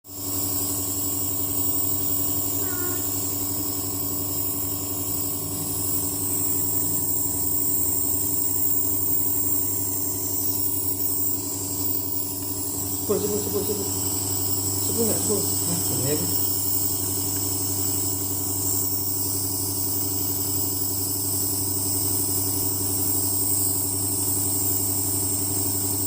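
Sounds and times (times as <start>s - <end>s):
nebulizer motor hum: 0.1s - 26.0s.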